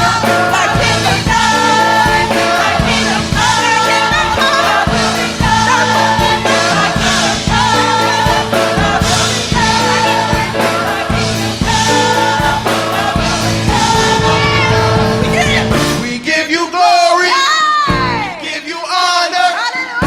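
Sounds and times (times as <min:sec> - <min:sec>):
steady beat: 0:00.0 - 0:16.4
choir singing gospel music: 0:00.0 - 0:20.0.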